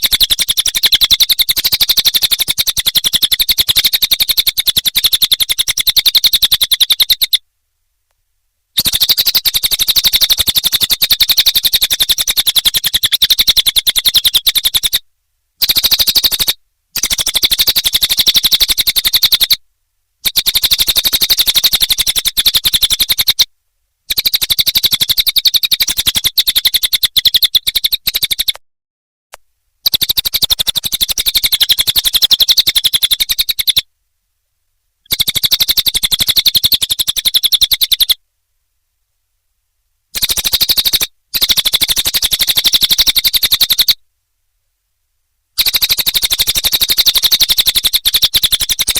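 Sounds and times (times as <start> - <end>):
bird song fast high chirps: 0.0 - 7.4, 8.8 - 15.0, 15.6 - 19.6, 20.2 - 23.5, 24.1 - 28.6, 29.8 - 33.8, 35.1 - 38.2, 40.2 - 44.0, 45.6 - 48.9.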